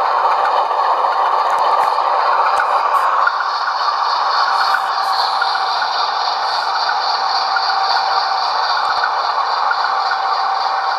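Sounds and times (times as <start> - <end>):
model locomotive diesel engine hum: 0.0 - 10.9
model train rolling on track: 0.0 - 10.9.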